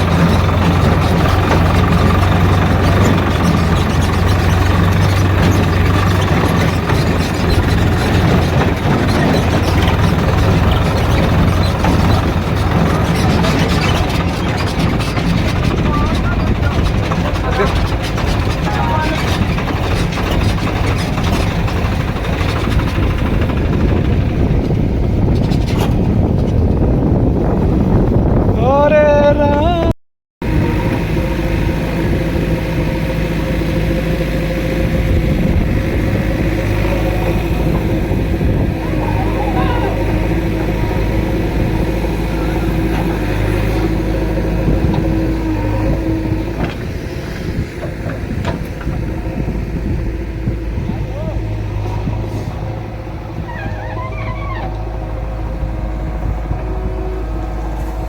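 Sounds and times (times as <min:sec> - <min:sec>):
heavy diesel engine working: 0:00.0 - 0:29.8, 0:30.4 - 0:58.0.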